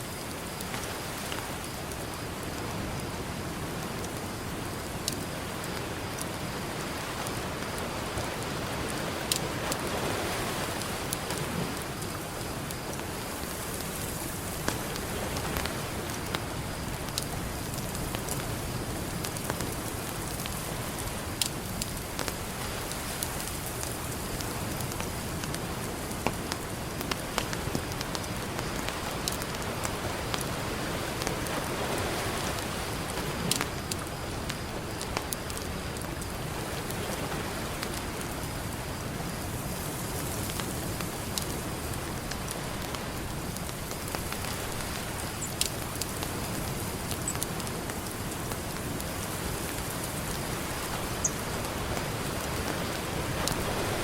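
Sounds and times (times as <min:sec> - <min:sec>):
ocean surf: 0:00.0 - 0:54.0
campfire crackling and popping: 0:00.1 - 0:54.0.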